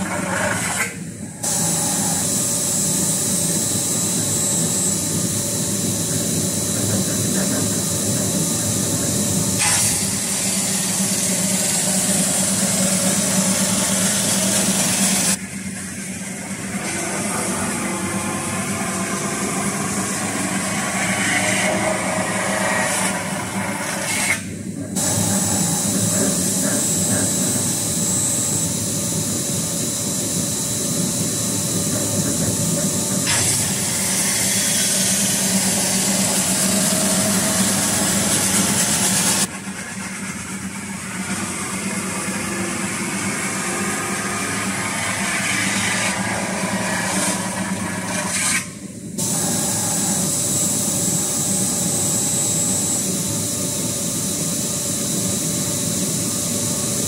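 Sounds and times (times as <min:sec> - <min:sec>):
metal spinning machine hissing rush: 0:00.0 - 0:57.0.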